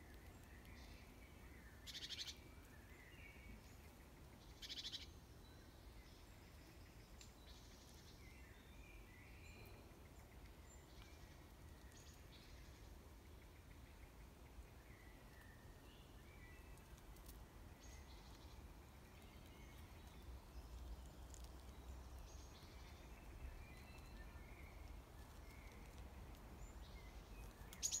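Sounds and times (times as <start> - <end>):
faint bird chirps: 0.0 - 17.0, 17.7 - 28.0.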